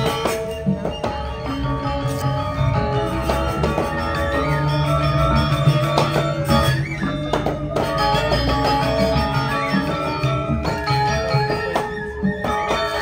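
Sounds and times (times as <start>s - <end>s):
gamelan metallophones ringing: 1.4s - 13.0s.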